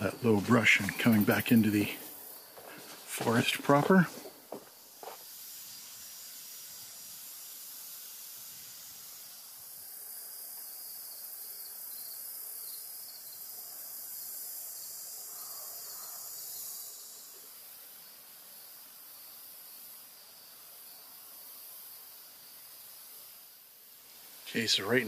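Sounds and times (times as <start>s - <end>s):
insects chorus hissing: 0.0s - 25.0s.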